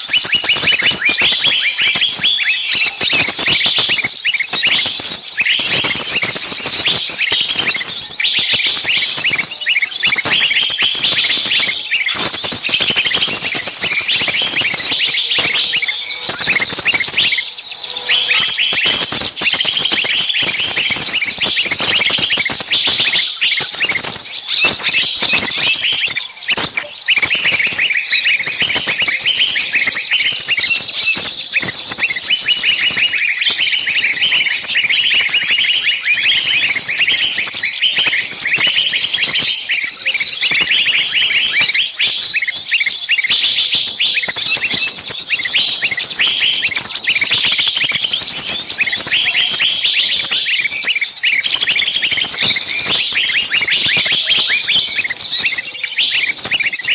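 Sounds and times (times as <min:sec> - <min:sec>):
chorus of agitated songbirds: 0:00.0 - 0:56.9.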